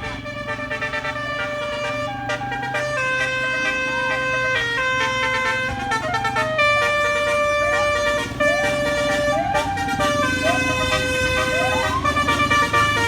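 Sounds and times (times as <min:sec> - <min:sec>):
bus air horn playing tune: 0:00.0 - 0:13.0
bus engine low hum: 0:00.0 - 0:13.0.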